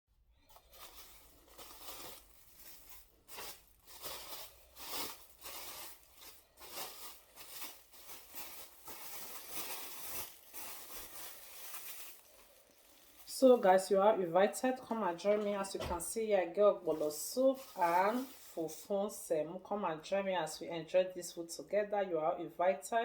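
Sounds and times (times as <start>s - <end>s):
crinkling and rustling: 0.4s - 18.9s.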